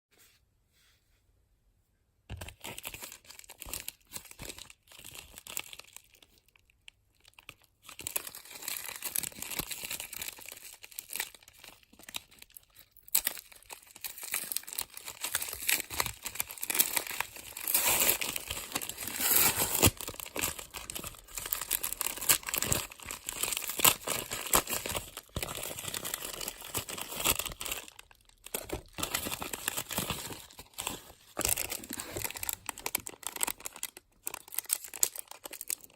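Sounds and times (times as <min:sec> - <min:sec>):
plastic packaging crinkling and tearing: 0:02.3 - 0:35.9.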